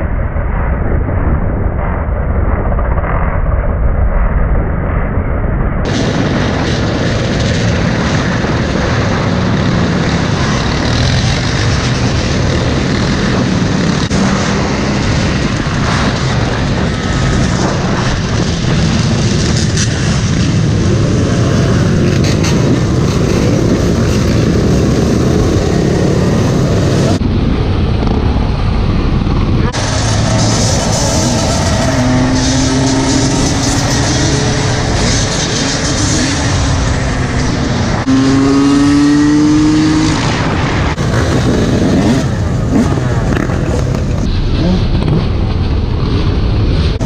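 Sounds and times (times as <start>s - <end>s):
dirt bike engines revving: 5.9s - 47.0s.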